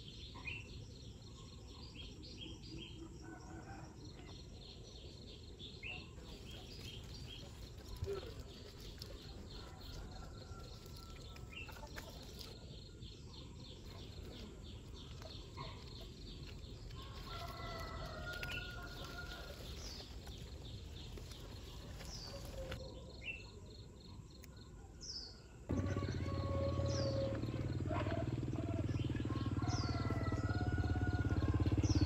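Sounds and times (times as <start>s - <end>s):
birds chirping and trilling: 0.0s - 32.0s.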